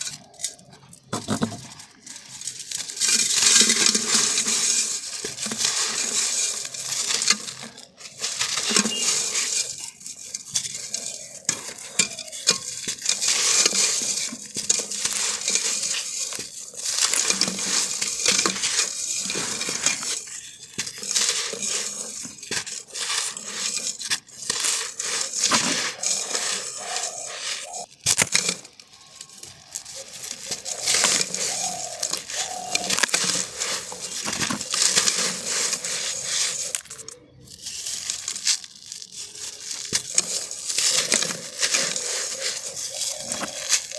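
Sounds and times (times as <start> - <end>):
sand crunching in clay pot: 0.0 - 43.9.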